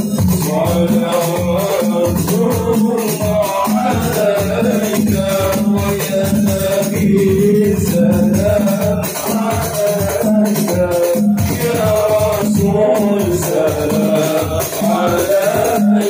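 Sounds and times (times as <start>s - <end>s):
men singing devotional song: 0.0s - 16.0s
rhythmic percussion: 0.0s - 16.0s.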